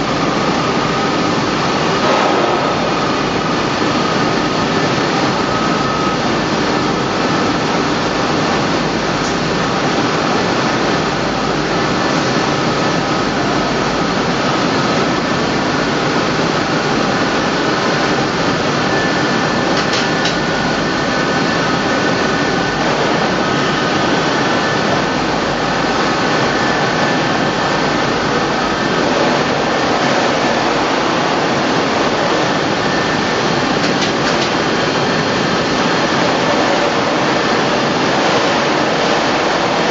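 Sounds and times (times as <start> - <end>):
wire coiling machine running: 0.0 - 39.9.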